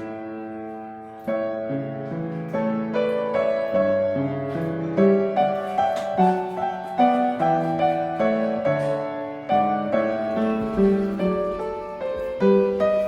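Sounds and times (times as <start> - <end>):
solo piano melody: 0.0 - 13.0.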